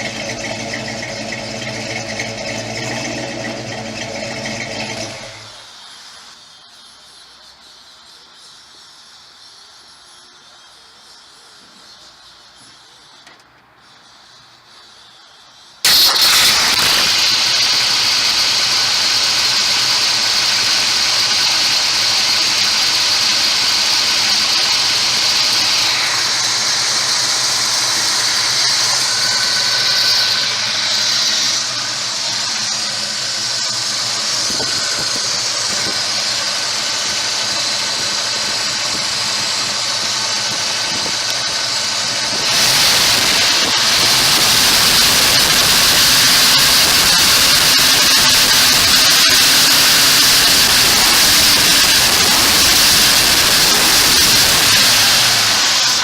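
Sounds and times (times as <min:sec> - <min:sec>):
car engine running: 0:00.0 - 0:05.7, 0:15.9 - 0:56.0.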